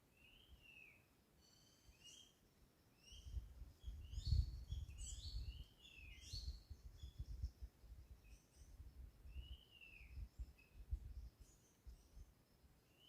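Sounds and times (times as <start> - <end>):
wild birds chirping: 0.1 - 13.0.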